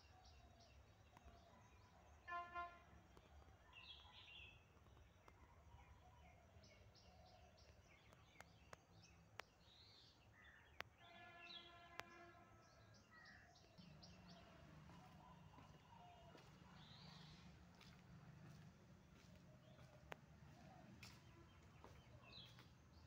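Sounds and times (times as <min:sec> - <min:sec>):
small birds chirping: 0:03.2 - 0:23.0.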